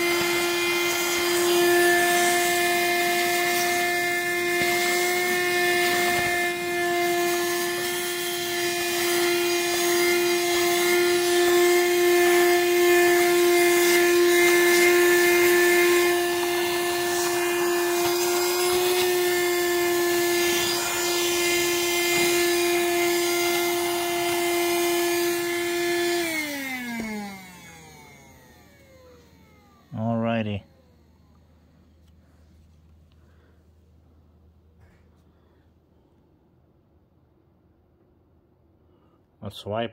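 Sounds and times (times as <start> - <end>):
small electric motor and fan humming: 0.0 - 33.0.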